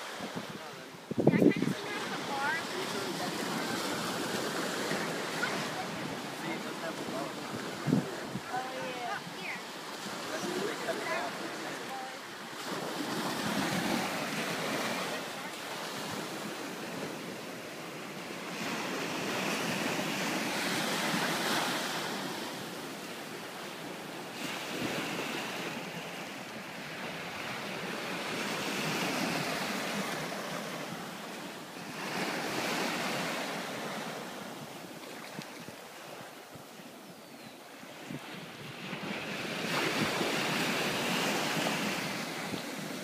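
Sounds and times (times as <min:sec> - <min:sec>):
small waves washing on sand: 0:00.0 - 0:43.0.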